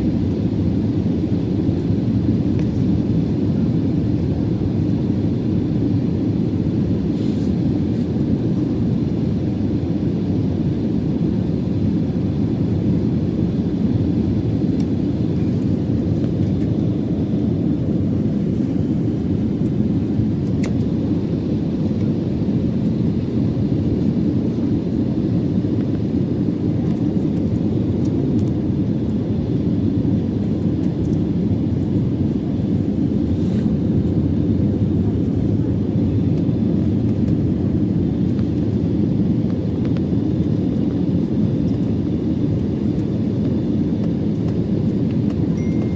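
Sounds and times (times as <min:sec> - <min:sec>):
jet engines low rumble: 0:00.0 - 0:45.9.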